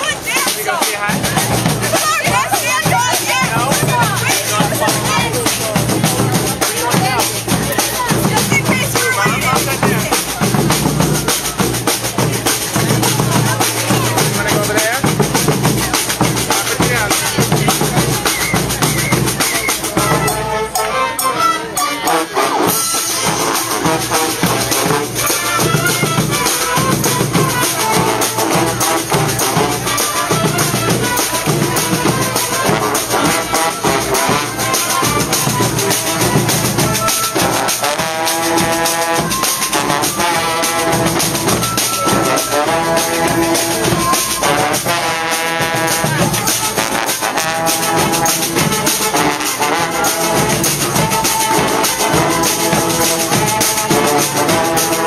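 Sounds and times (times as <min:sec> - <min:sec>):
brass band playing: 0:00.0 - 0:55.0
steady drum beat: 0:00.0 - 0:55.0.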